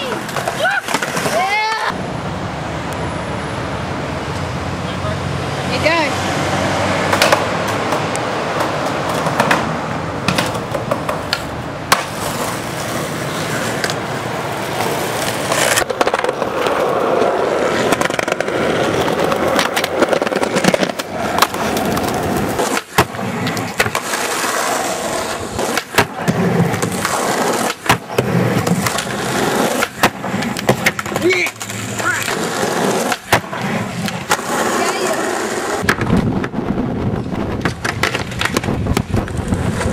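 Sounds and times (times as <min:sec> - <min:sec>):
skateboard clacking against ground: 0:00.0 - 0:02.0, 0:07.1 - 0:36.6, 0:37.2 - 0:39.9
skateboard wheels rolling on pavement: 0:00.0 - 0:39.9.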